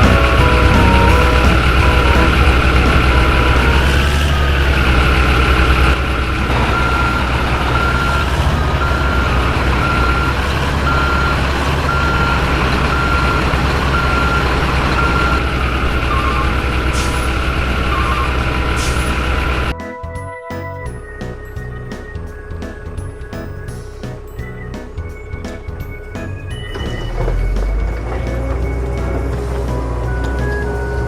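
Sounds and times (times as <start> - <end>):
diesel truck engine running: 0.0 - 19.8, 20.5 - 31.0
reversing beeper: 0.0 - 31.0.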